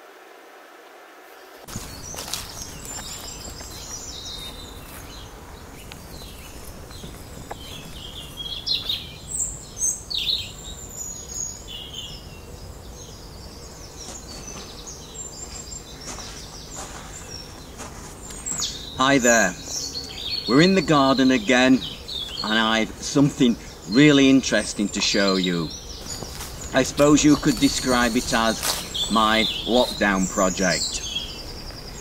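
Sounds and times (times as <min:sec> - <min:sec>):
birds chirping and trilling: 0:01.3 - 0:32.0.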